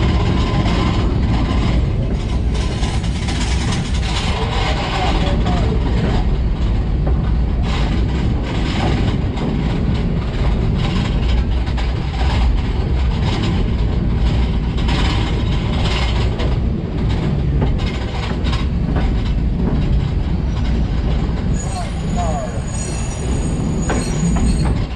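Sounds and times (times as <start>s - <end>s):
train car rumbling on track: 0.0s - 24.9s.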